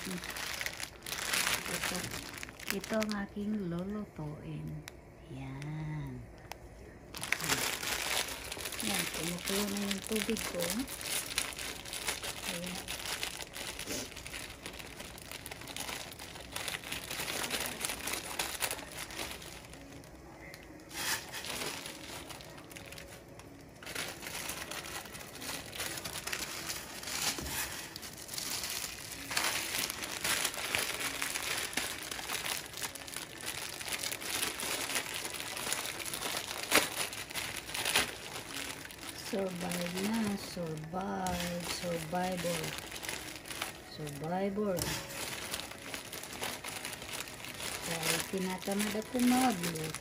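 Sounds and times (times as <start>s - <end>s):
noodle packet crinkling: 0.0s - 50.0s
water heating with crackling hiss: 0.0s - 50.0s.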